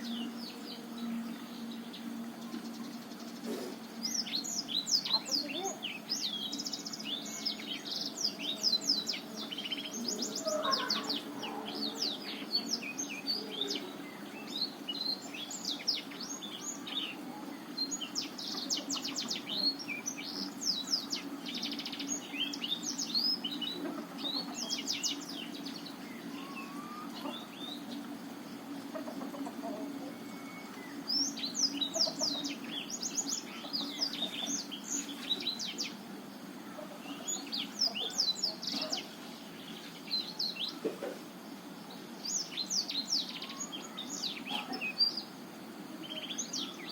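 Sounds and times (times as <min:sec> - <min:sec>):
canary singing: 0:00.0 - 0:46.9.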